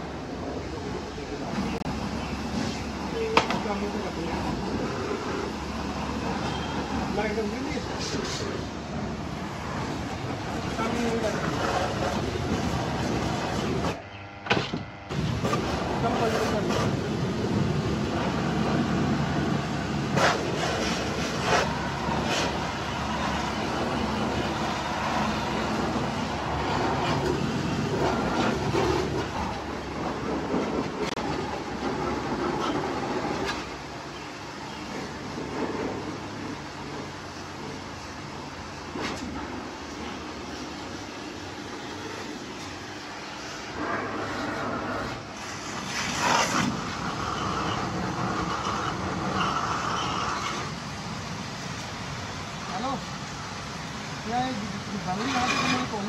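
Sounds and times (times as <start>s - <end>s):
mechanical hum: 0.0s - 56.0s
pressure washer spraying on metal fins: 1.6s - 14.0s, 15.1s - 56.0s.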